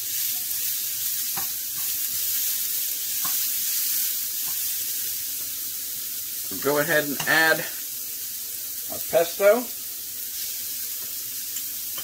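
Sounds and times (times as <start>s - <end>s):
noodles sizzling in oil: 0.0s - 12.0s.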